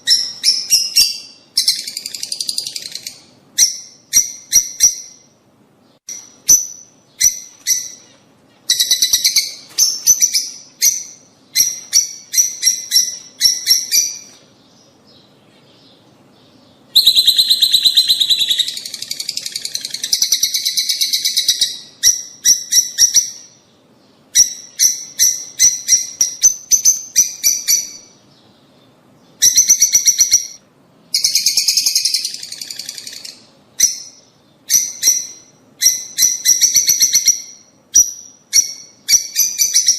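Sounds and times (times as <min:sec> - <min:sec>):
birds chirping shrilly: 0:06.1 - 0:39.9.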